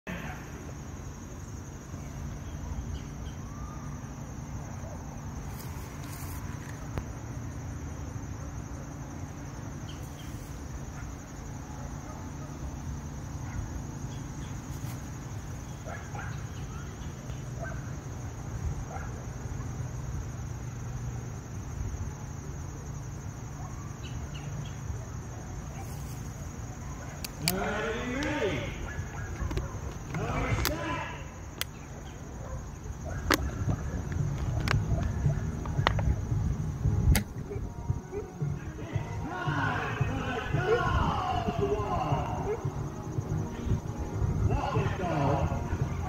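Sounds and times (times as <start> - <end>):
high-pitched insect drone: 0.1 - 46.0.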